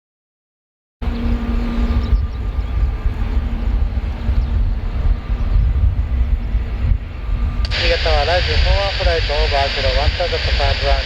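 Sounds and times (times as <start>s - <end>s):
distant jet engines humming: 1.0s - 11.0s.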